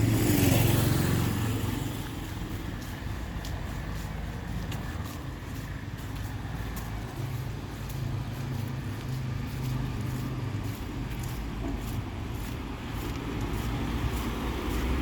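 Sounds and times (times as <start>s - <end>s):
street noise: 0.0s - 15.0s
vehicle engine running: 0.0s - 15.0s.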